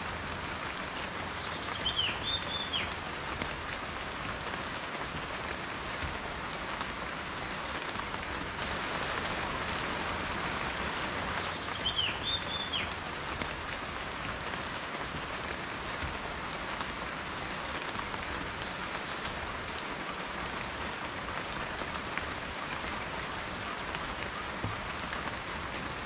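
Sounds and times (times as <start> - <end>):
raindrops ticking on a surface: 0.0 - 26.0
steady rain hiss: 0.0 - 26.0.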